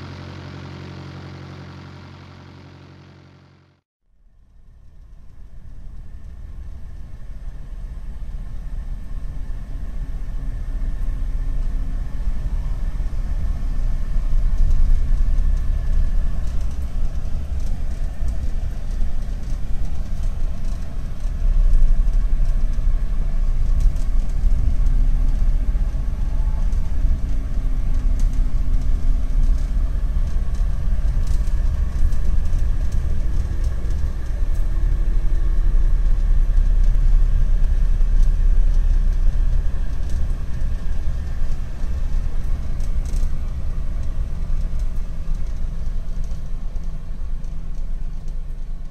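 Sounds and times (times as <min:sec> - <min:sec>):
engine and tyre rumble: 0:00.0 - 0:03.8, 0:04.9 - 0:48.9
faint engine hum: 0:00.0 - 0:48.9.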